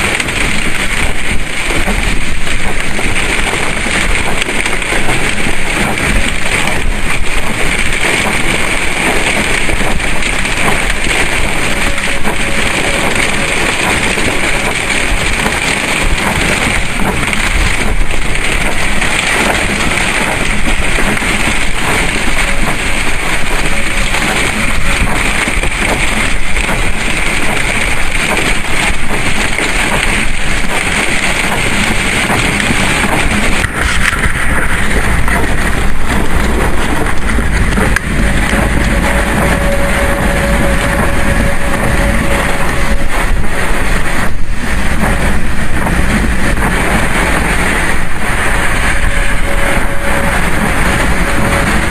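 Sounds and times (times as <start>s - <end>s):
storm wind buffeting microphone: 0.0s - 51.9s.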